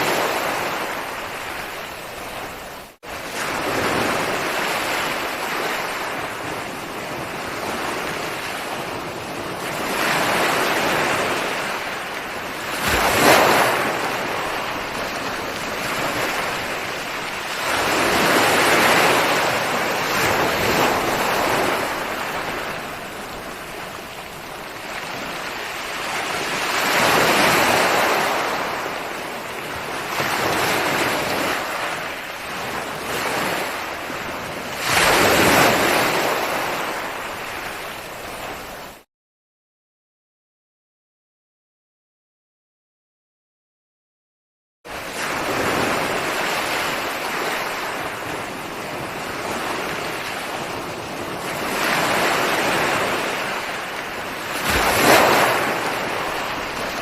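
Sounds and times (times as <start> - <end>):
ocean waves breaking on shore: 0.0 - 39.1, 44.9 - 57.0.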